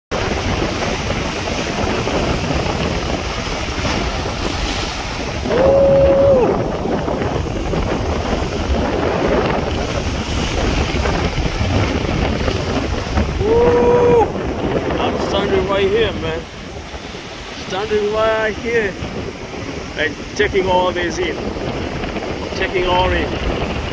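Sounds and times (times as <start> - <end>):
surf breaking against rocks: 0.1 - 23.9
wind buffeting microphone: 0.1 - 23.9.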